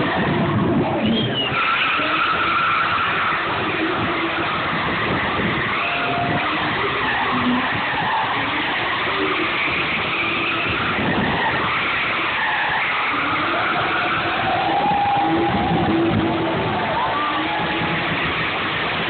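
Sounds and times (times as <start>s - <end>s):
car engine running hard: 0.0s - 19.0s
tires screeching: 0.0s - 19.0s.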